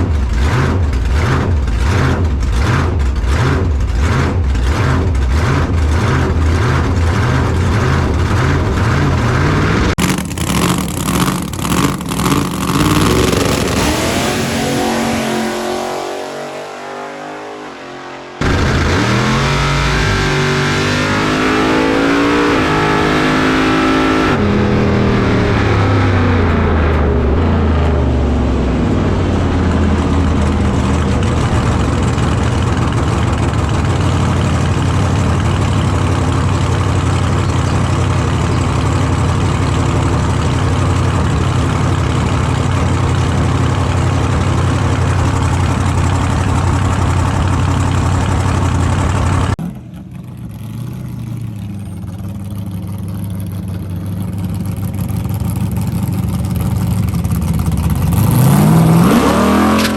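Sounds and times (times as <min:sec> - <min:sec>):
car engine idling loudly: 0:00.0 - 0:16.7, 0:18.4 - 0:59.9
engine revving: 0:00.0 - 0:49.8, 0:57.7 - 0:59.9.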